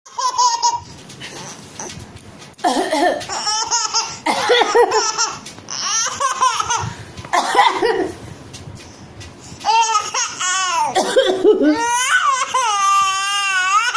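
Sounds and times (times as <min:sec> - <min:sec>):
baby laughing: 0:00.1 - 0:01.9, 0:03.1 - 0:08.2, 0:09.6 - 0:13.9.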